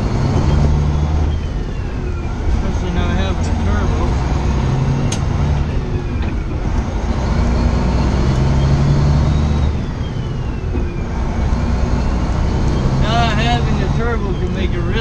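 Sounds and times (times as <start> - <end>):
faint engine whine: 0.0 - 15.0
truck diesel engine droning: 0.0 - 15.0.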